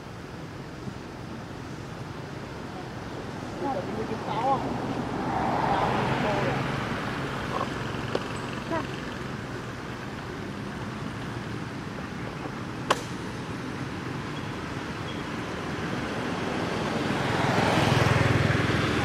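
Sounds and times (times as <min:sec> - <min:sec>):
motor traffic noise: 0:00.0 - 0:19.0
vehicle approaching: 0:00.7 - 0:19.0.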